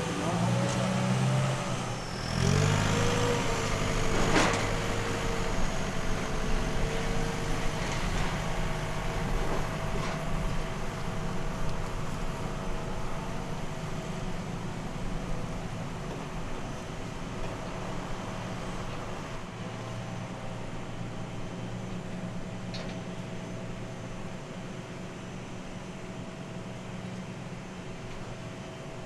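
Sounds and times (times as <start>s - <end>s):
vehicle engine drone: 0.0s - 29.0s.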